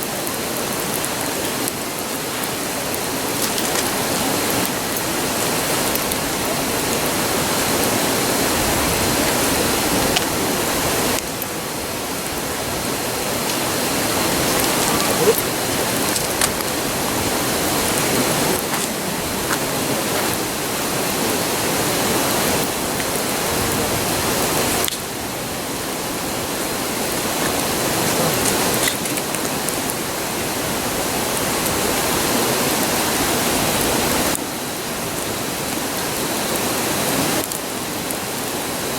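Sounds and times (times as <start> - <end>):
campfire crackling: 0.0 - 38.9
river rushing: 0.0 - 38.9.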